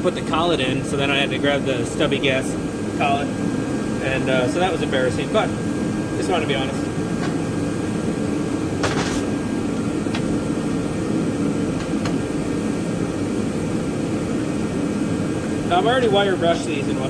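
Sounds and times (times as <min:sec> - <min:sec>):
fan whirring hum: 0:00.0 - 0:17.0.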